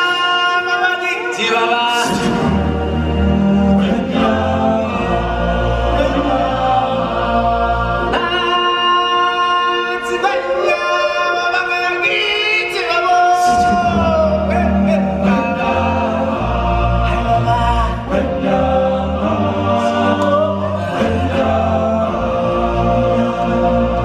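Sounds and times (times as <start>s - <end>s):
choir singing held notes: 1.3s - 24.0s.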